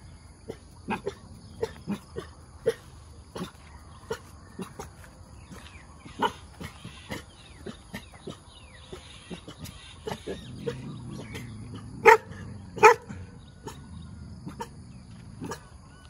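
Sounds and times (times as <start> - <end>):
dogs barking: 0.0 - 15.9.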